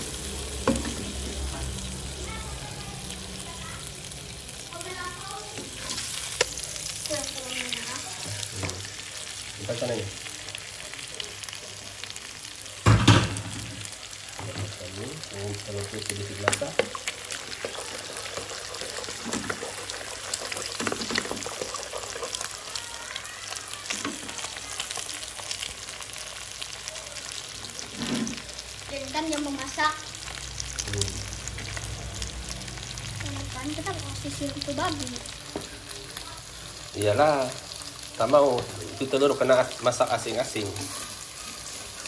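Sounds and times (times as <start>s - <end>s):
meat sizzling in hot oil: 0.0s - 42.0s.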